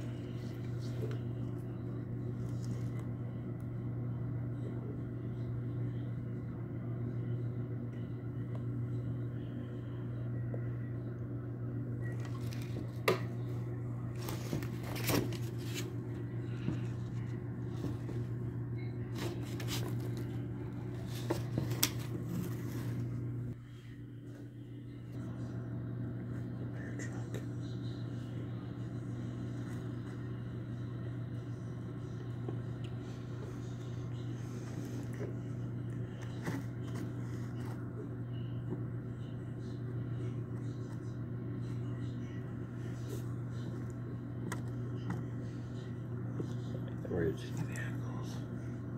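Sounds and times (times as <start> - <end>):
low mechanical hum: 0.0 - 48.9.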